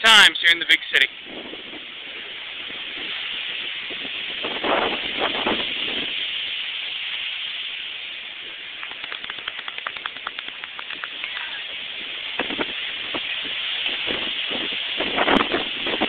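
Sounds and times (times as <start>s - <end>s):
strong storm wind: 0.0s - 16.0s.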